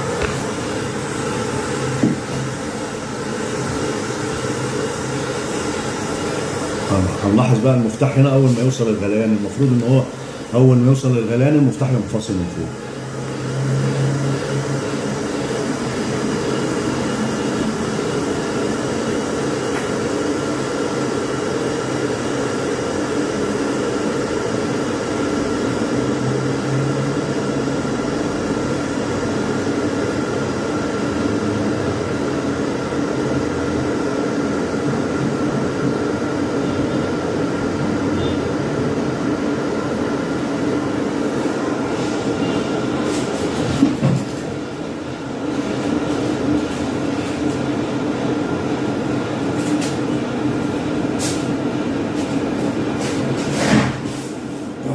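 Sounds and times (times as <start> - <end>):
electric kettle heating water: 0.0 - 53.0.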